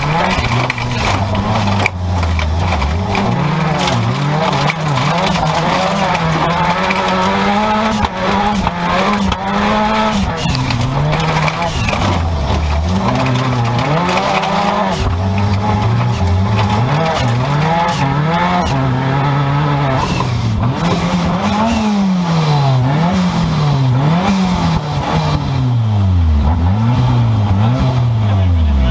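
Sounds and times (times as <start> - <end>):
car engine revving: 0.0 - 28.9
road and tyre noise: 0.0 - 28.9.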